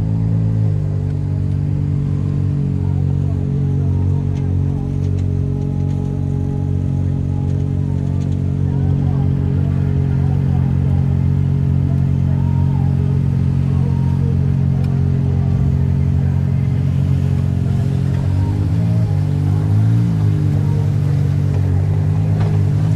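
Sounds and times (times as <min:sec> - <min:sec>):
utility vehicle engine running: 0:00.0 - 0:22.9.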